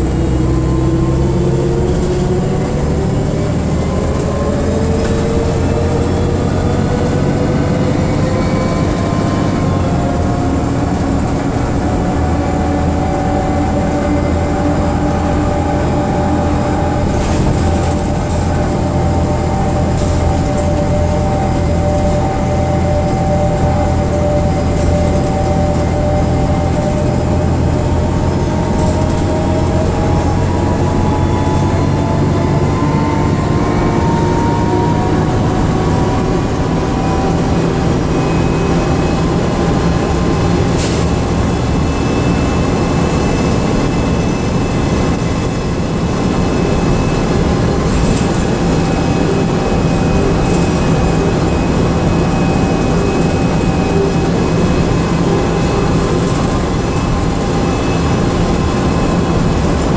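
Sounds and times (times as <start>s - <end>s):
bus engine drone: 0.0s - 59.9s
road noise: 0.0s - 59.9s
whine drifting in pitch: 0.0s - 59.9s.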